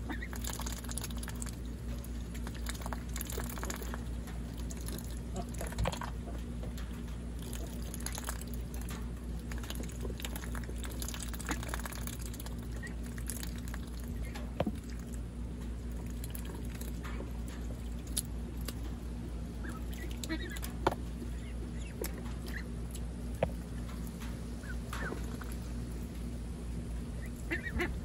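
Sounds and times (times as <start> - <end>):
ducks dabbling in water: 0.0 - 26.2, 27.0 - 28.0
low hum: 0.0 - 28.0.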